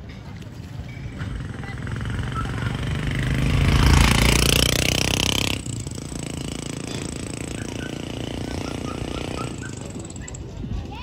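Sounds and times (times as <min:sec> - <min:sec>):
steady background noise: 0:00.0 - 0:11.0
vehicle passing close by: 0:01.3 - 0:10.3.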